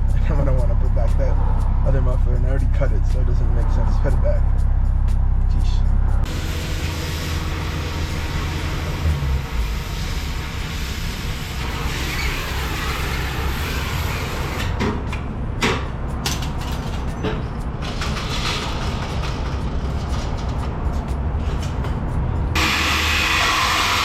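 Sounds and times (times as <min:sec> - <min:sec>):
low exhaust drone: 0:00.0 - 0:24.0.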